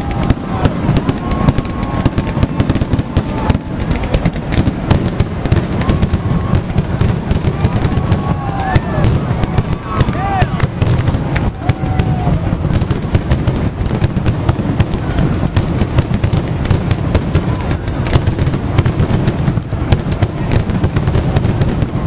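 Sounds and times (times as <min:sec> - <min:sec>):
fireworks crackling: 0:00.0 - 0:22.0
fireworks launching and bursting: 0:00.0 - 0:22.0.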